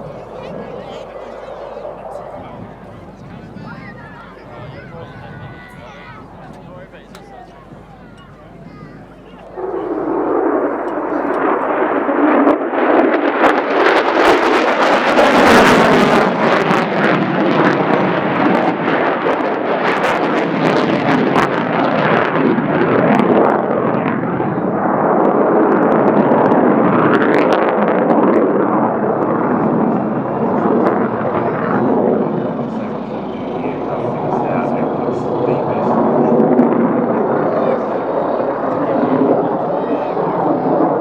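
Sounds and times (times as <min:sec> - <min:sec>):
crackling jet noise: 0:00.0 - 0:41.0.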